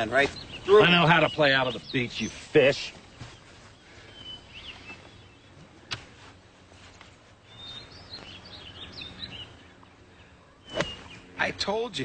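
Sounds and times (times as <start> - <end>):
birds chirping: 0.0 - 12.0
faint outdoor background noise: 0.0 - 12.0.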